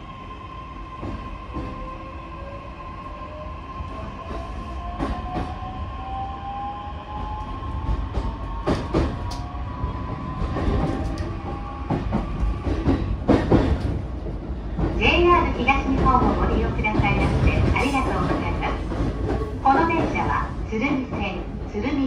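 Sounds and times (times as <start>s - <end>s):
train rolling rumble: 0.0s - 22.0s.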